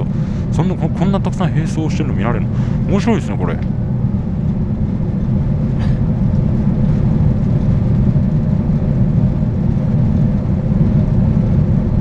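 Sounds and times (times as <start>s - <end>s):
boat engine rumble: 0.0s - 12.0s
faint hum: 0.0s - 12.0s.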